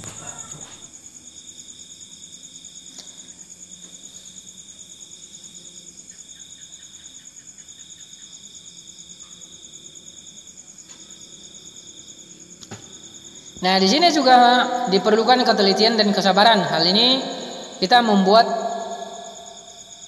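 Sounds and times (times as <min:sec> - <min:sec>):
high pulsing insect trill: 0:00.0 - 0:20.0
lower insect trill: 0:00.0 - 0:20.0.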